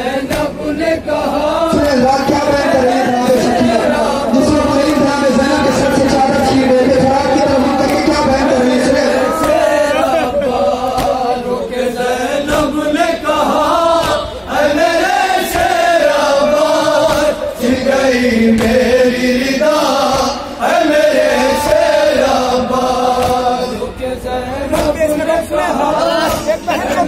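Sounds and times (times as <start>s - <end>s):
men chanting in unison: 0.0s - 27.0s.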